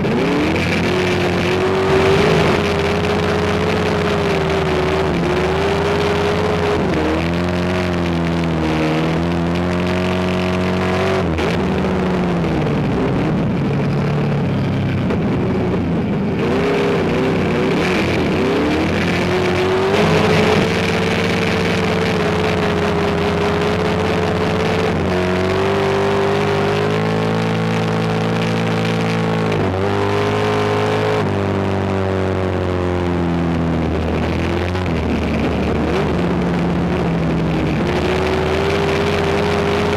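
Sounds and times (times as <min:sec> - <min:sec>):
race car engine revving: 0:00.0 - 0:13.9, 0:15.1 - 0:39.9.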